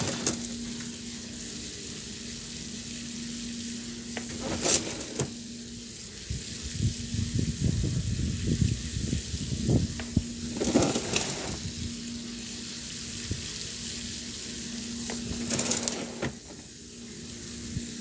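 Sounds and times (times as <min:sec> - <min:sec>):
hiss: 0:00.0 - 0:18.0.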